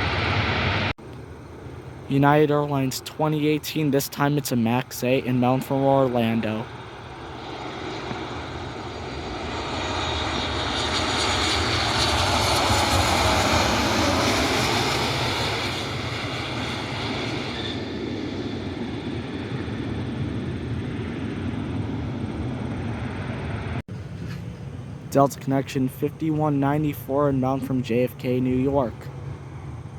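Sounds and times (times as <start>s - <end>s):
jet engines passing overhead: 0.0s - 29.9s.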